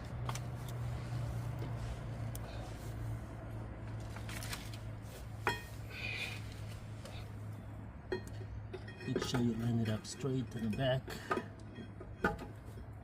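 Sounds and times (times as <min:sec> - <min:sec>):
rustling and scraping metal: 0:00.0 - 0:13.0.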